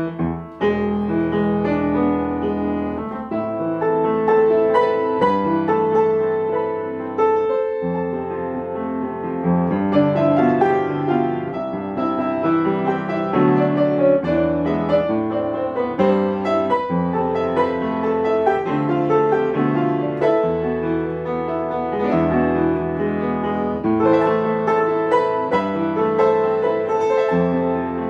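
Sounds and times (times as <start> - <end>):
upright piano playing: 0.0 - 28.0.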